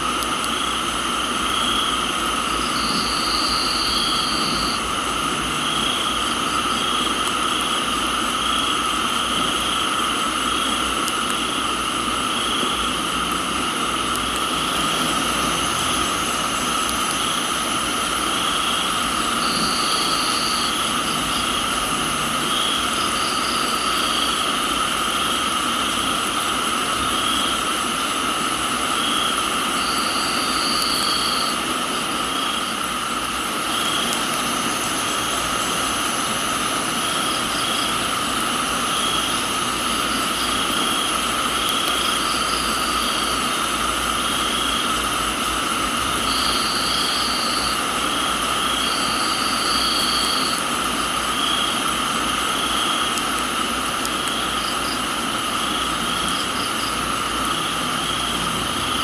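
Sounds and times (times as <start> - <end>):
crickets and insects trilling: 0.0 - 59.0
high insect trill: 0.0 - 59.0
rain hiss: 0.0 - 59.0.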